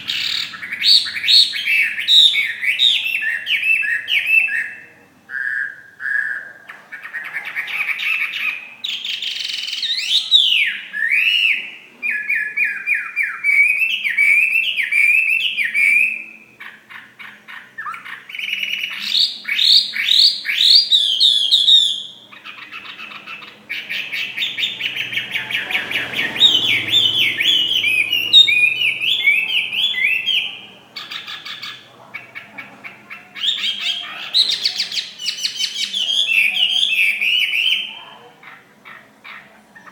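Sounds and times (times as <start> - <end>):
bird singing whistled trills: 0.0 - 6.7, 8.1 - 16.5, 17.8 - 22.3, 23.3 - 31.8, 33.4 - 38.0.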